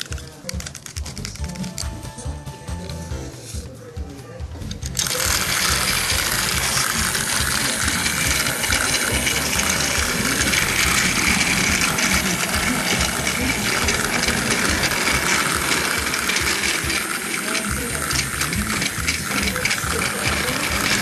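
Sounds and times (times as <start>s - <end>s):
toy train motor whirring: 0.0s - 2.0s, 4.6s - 21.0s
wheels rattling on plastic track: 0.0s - 2.0s, 4.6s - 21.0s.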